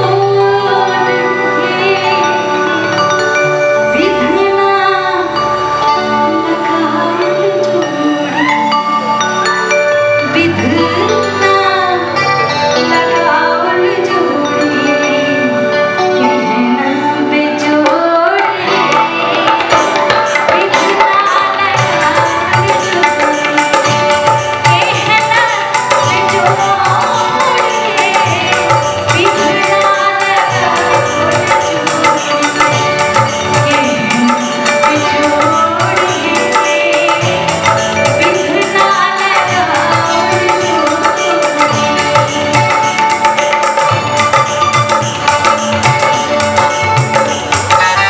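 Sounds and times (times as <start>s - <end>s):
harmonium tones: 0.0s - 48.0s
wavering melody line: 0.0s - 48.0s
tabla rhythm: 7.1s - 48.0s.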